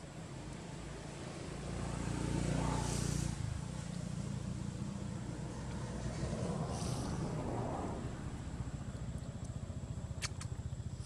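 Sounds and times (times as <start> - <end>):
low outdoor background: 0.0 - 11.0
passing vehicle engine rumble: 0.0 - 11.0.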